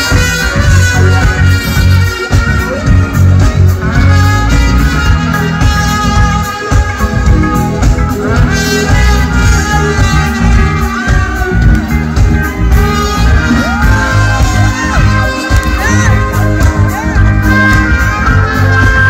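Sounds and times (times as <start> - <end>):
drum kit: 0.0 - 19.0
electric guitar: 0.0 - 19.0
live band playing: 0.0 - 19.0.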